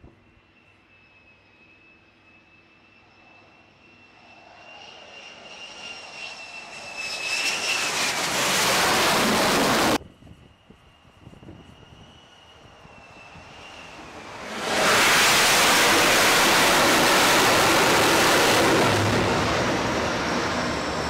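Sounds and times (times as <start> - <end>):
jet engine whine and rush: 0.0 - 21.0.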